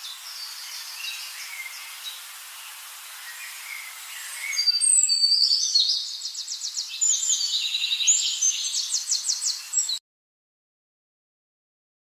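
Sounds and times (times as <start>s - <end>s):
songbird singing trills: 0.0s - 10.0s.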